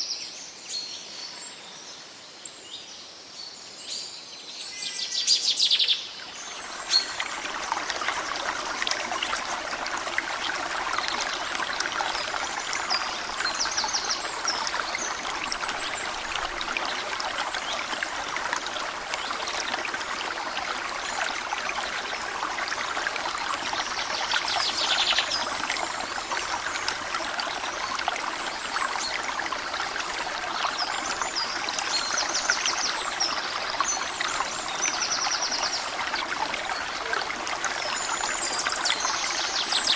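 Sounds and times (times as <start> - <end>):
water trickling steadily: 6.0 - 39.9.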